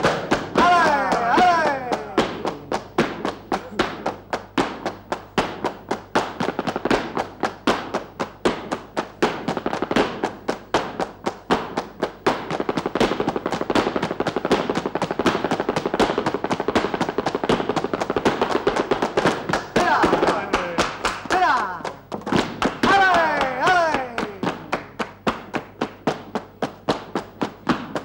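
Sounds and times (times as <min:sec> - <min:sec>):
dance footwork on stage floor: 0:00.0 - 0:28.0
hand clapping: 0:00.0 - 0:28.0.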